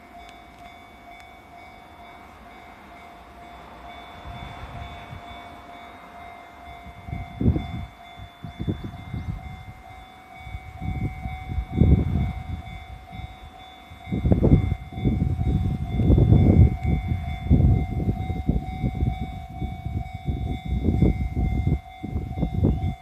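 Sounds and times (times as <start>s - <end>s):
crossing warning bell ringing: 0.0s - 23.0s.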